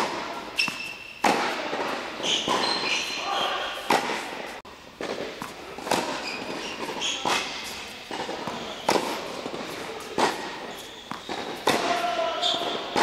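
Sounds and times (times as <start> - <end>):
tennis ball bouncing: 0.0 - 3.2, 3.8 - 13.0
racket hitting tennis ball: 0.0 - 13.0.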